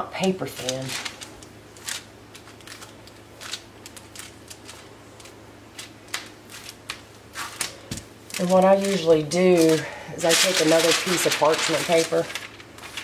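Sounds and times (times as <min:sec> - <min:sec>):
faint steady hum: 0:00.0 - 0:13.0
parchment paper rustling: 0:00.0 - 0:13.0.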